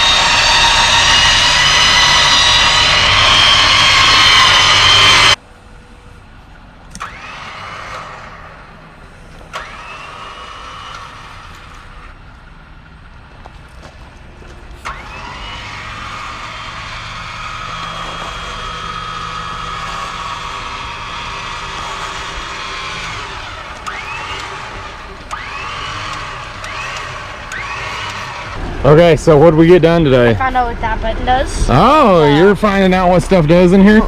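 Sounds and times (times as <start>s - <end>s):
electric winch motor whine: 0.0s - 13.3s, 14.1s - 34.0s.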